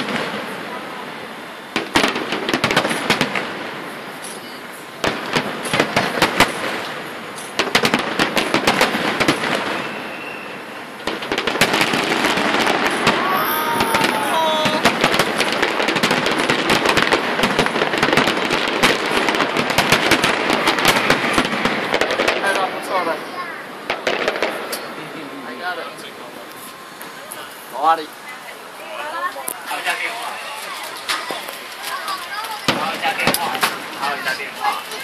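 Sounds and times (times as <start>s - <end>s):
fireworks bursting with bangs and crackling: 0.0s - 35.0s.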